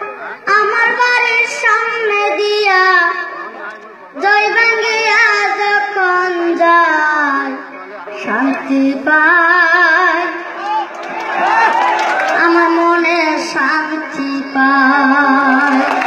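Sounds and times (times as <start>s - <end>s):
boy singing into a microphone: 0.0s - 10.6s, 12.4s - 16.0s.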